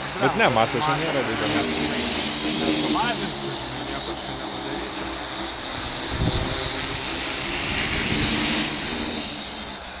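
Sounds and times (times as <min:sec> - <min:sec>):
quadcopter motors buzzing: 0:00.0 - 0:10.0.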